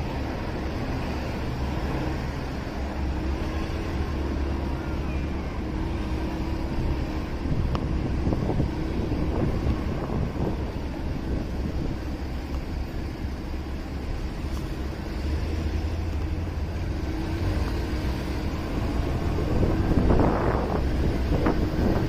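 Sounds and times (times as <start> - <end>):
motorcycle engine rumble: 0.0 - 22.0
wind rushing on microphone: 0.0 - 22.0.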